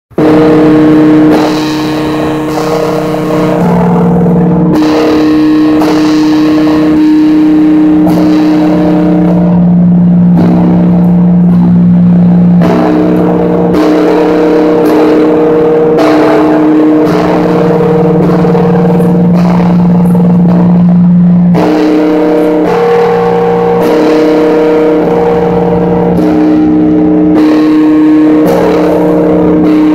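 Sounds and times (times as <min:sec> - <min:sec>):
large church bell ringing: 0:00.1 - 0:29.9.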